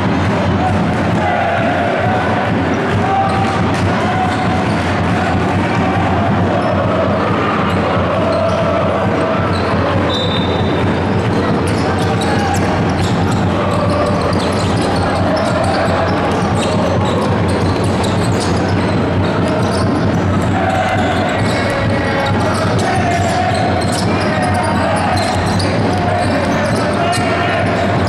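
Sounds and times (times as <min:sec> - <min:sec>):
basketball bouncing on court: 0:00.0 - 0:28.0
crowd chatter: 0:00.0 - 0:28.0.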